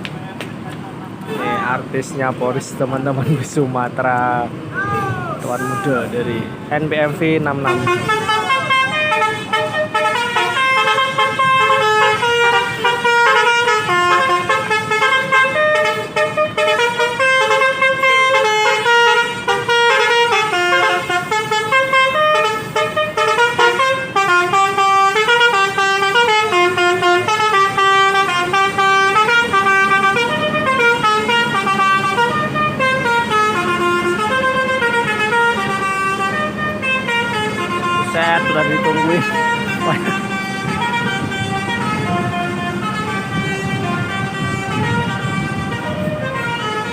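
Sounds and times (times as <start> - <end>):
bus musical horn melody: 4.9 - 46.9.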